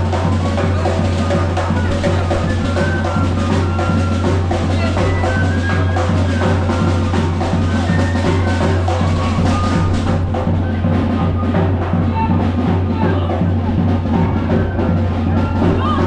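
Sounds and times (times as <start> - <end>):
music with drum beat and bass: 0.0 - 16.0.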